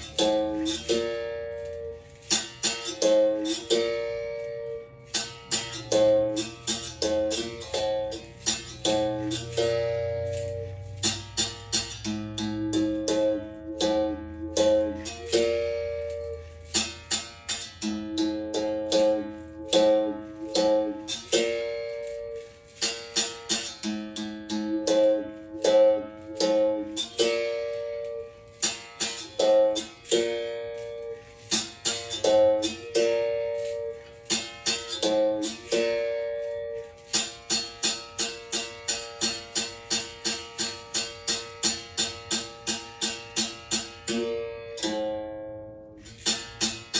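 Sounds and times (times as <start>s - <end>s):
berimbau string struck with stick: 0.0s - 46.9s.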